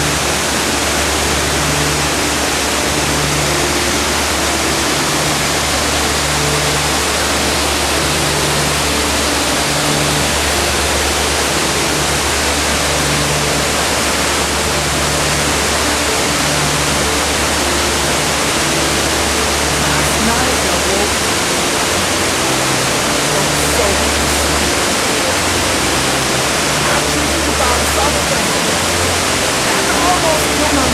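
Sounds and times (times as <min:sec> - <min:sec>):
waterfall roaring: 0:00.0 - 0:30.9.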